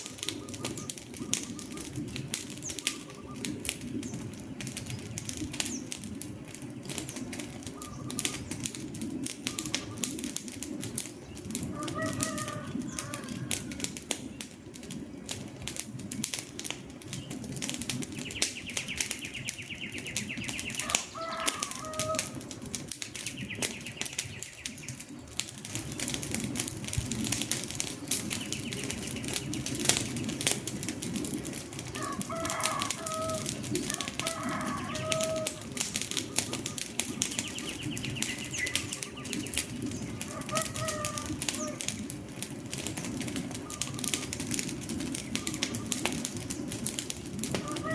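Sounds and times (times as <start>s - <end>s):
birds calling: 0.0s - 15.0s, 16.9s - 47.9s
wood fire crackling: 0.0s - 47.9s.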